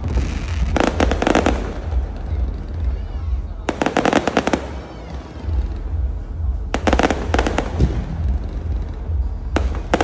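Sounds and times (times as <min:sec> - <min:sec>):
fireworks cracking: 0:00.0 - 0:10.0.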